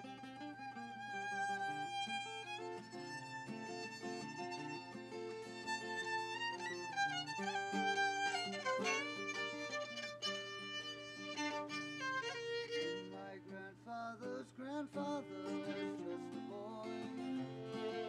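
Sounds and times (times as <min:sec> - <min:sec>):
fiddle melody: 0:00.0 - 0:13.7, 0:14.3 - 0:18.0
strummed acoustic guitar: 0:00.0 - 0:18.0.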